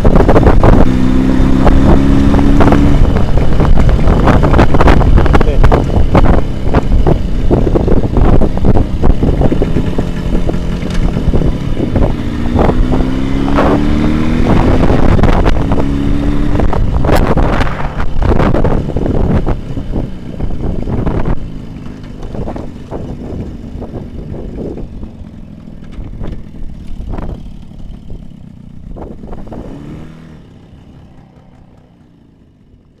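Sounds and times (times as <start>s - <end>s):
wind buffeting: 0.0s - 30.5s
two-stroke motorcycle engine: 0.0s - 33.0s.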